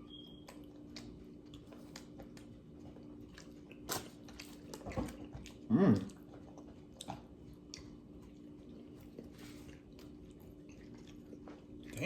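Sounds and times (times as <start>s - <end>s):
person chewing close up: 0.0s - 12.0s.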